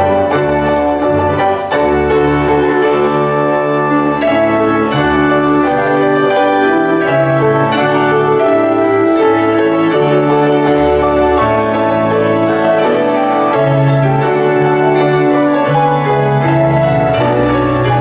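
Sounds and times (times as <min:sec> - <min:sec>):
organ-toned keyboard chords: 0:00.0 - 0:18.0.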